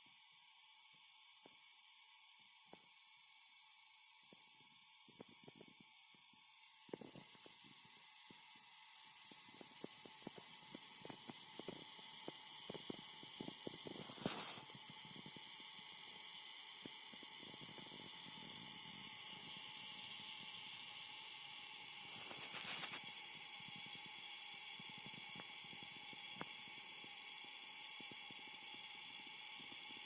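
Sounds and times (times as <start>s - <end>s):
power supply high hiss: 0.0s - 30.0s.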